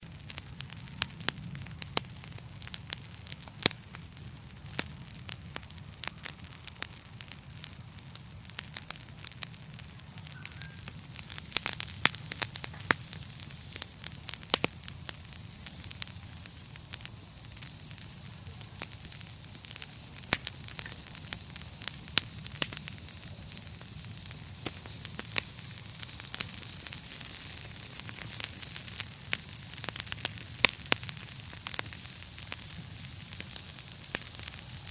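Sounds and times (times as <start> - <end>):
fire crackling and popping: 0.0 - 34.9
fire rumbling and hissing: 0.0 - 34.9.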